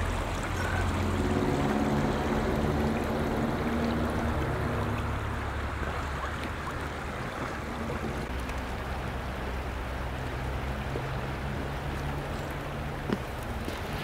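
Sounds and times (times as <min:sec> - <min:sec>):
creek water flowing over rocks: 0:00.0 - 0:14.0.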